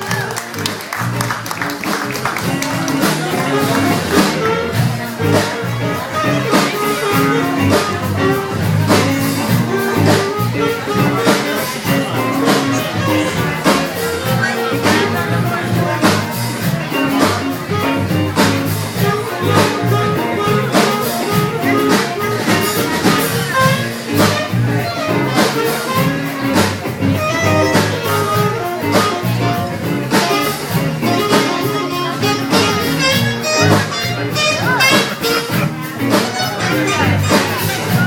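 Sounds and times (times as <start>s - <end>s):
live jazz-blues band playing: 0.0s - 38.0s
steady drum beat: 0.0s - 38.0s.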